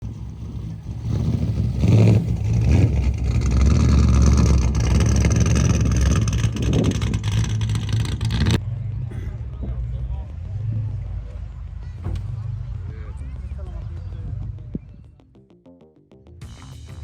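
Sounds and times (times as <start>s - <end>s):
vehicle engine running loudly: 0.0s - 15.0s.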